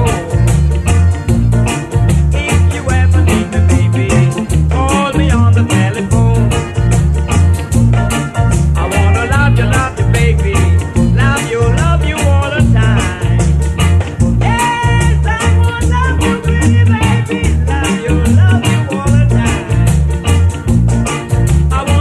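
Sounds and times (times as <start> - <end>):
bouncing bass line: 0.0 - 22.0
person singing reggae: 0.0 - 22.0
quick high percussion beat: 0.0 - 22.0.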